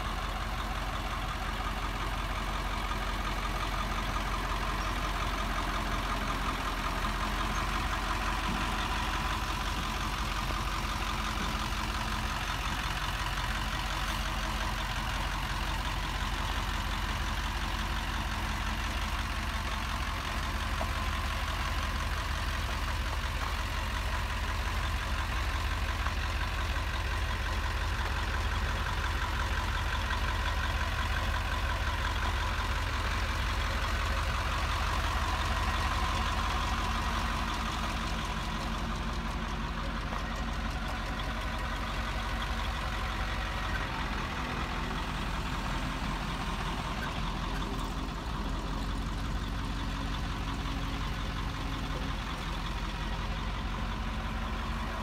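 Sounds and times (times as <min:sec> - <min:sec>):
sprayer engine idling: 0:00.0 - 0:55.0.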